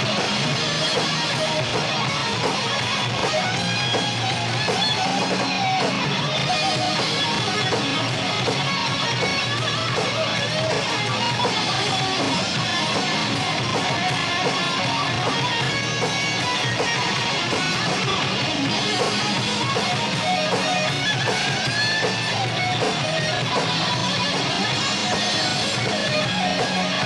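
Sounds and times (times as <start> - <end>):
electric guitar bending notes: 0.0 - 27.0
metal band playing: 0.0 - 27.0.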